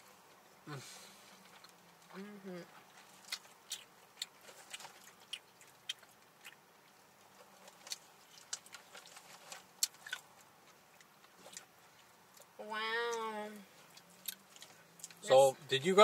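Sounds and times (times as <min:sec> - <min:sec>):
chewing crispy fried chicken: 0:01.1 - 0:15.3.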